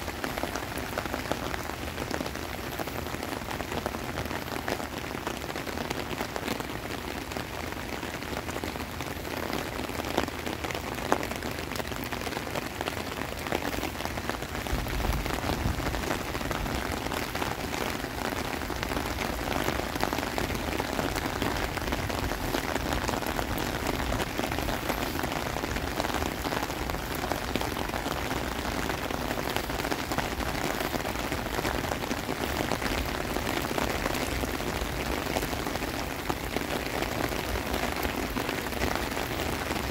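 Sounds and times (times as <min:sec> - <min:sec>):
heavy rain on concrete and water: 0:00.0 - 0:39.9.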